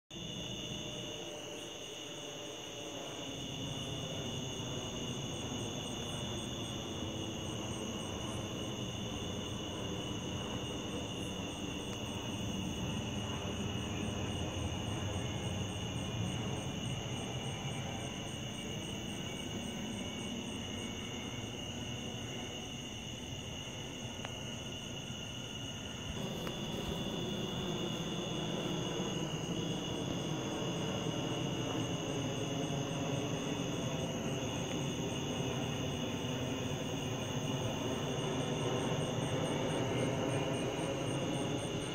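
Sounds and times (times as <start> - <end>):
night insects chorus: 0.1 - 41.9
airplane engine rumble: 0.2 - 41.9.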